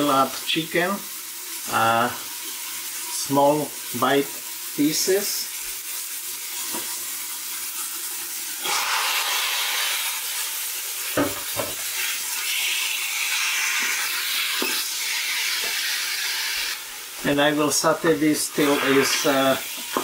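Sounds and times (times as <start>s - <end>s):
onion and chicken sizzling in oil: 0.0s - 20.0s.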